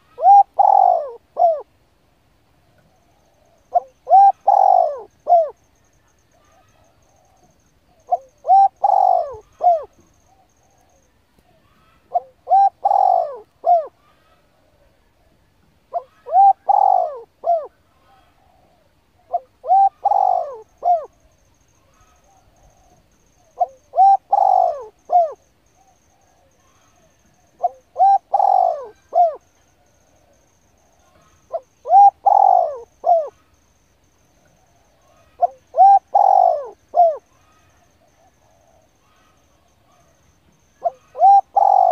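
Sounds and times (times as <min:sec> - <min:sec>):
dove cooing: 0:00.0 - 0:01.8, 0:02.7 - 0:33.7, 0:34.3 - 0:41.9.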